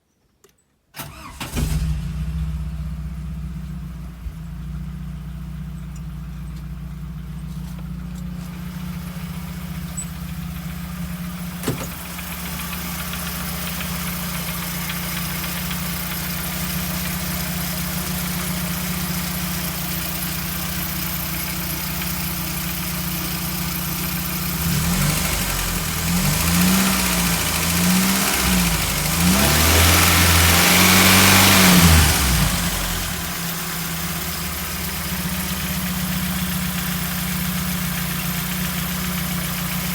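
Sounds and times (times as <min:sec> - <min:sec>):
car engine idling and revving: 0:01.1 - 0:39.9.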